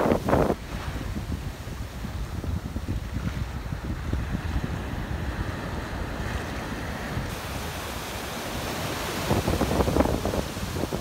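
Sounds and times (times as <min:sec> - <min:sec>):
surf breaking and washing in: 0:00.0 - 0:11.0
wind noise on microphone: 0:00.0 - 0:11.0.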